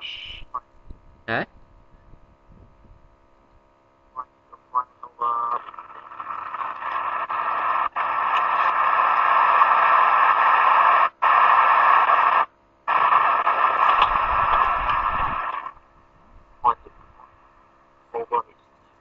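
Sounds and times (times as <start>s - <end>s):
loud static hiss: 0.0s - 1.8s, 4.1s - 18.5s.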